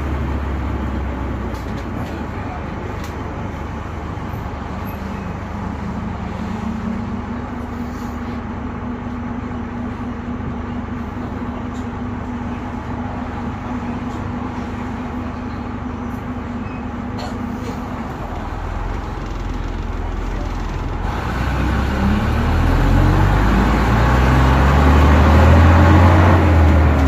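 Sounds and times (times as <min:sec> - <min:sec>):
bus engine and road rumble: 0:00.0 - 0:27.0
bus whine: 0:00.0 - 0:27.0.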